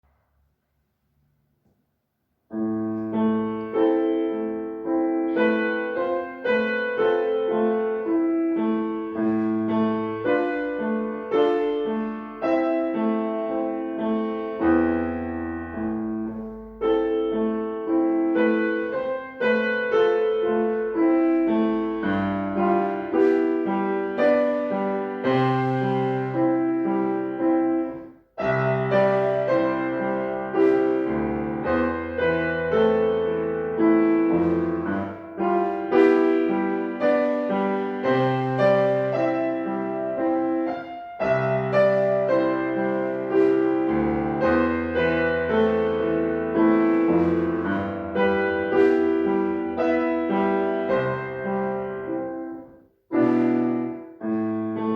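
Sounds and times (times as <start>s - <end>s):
solo piano: 2.4s - 54.9s.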